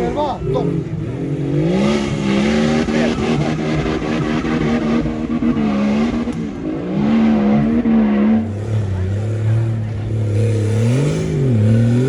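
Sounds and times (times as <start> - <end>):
engine revving hard: 0.0 - 12.0.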